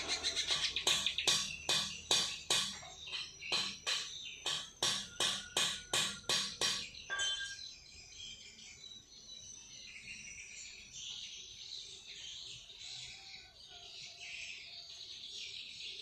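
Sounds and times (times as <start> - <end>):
loud repeated bird calls: 0.0 - 16.0
songbirds chirping chorus: 0.0 - 16.0.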